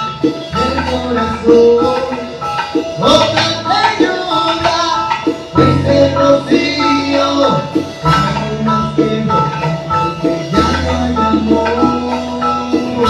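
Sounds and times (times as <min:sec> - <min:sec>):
salsa band music: 0:00.0 - 0:13.0.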